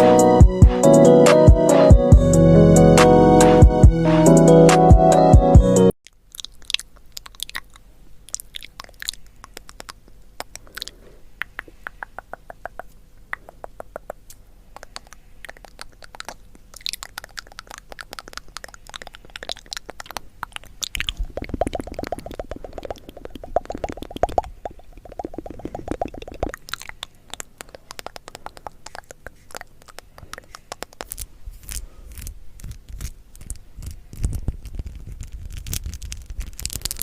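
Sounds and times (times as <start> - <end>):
crisp crackling and clicking: 6.0 - 37.0.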